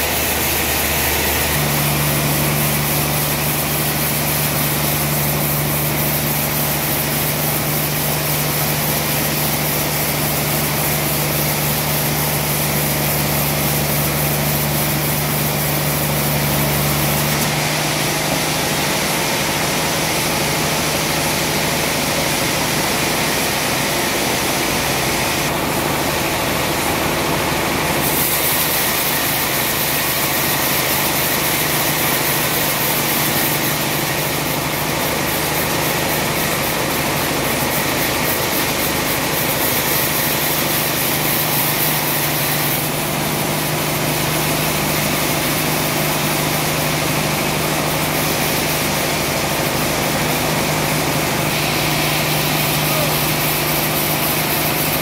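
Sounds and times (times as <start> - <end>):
band saw motor hum: 0.0 - 55.0.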